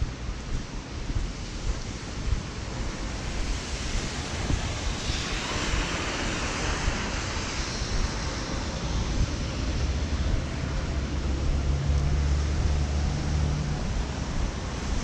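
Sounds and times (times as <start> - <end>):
wind rumble on microphone: 0.0 - 15.0
tyres hissing on wet road: 1.4 - 15.0.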